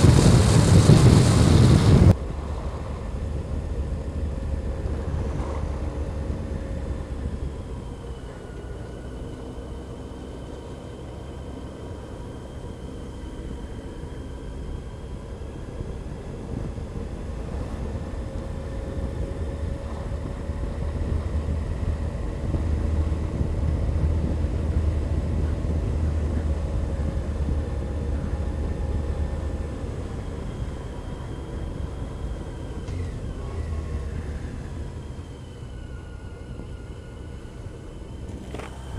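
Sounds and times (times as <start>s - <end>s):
wind rumble on microphone: 0.0s - 9.4s, 12.1s - 38.9s.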